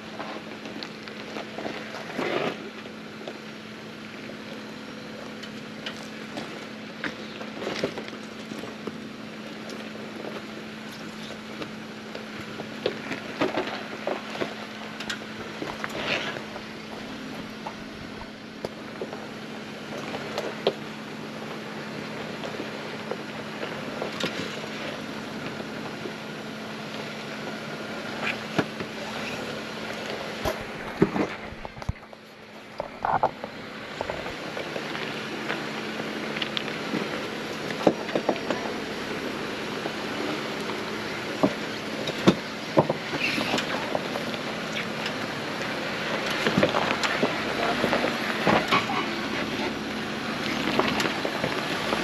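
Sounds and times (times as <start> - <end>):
engine running at low revs: 0.0 - 52.0
steady rough vehicle noise: 0.0 - 52.0
stones crunching under tyres: 0.0 - 52.0.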